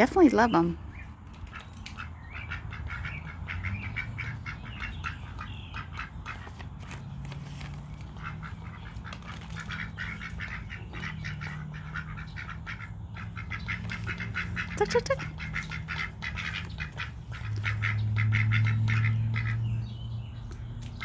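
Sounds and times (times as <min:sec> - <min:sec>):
ducks quacking: 0:01.4 - 0:07.0, 0:07.6 - 0:20.0.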